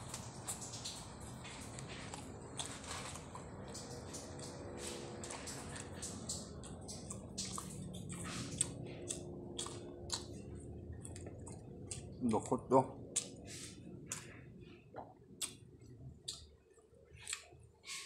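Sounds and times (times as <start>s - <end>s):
person chewing food wetly: 0.0s - 18.0s.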